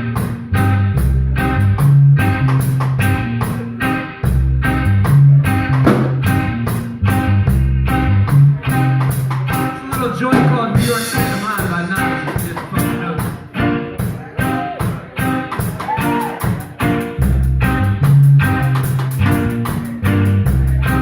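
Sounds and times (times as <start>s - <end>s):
bass guitar: 0.0s - 21.0s
drum beat with hi-hat: 0.0s - 21.0s
electric guitar lead with bends: 0.0s - 21.0s.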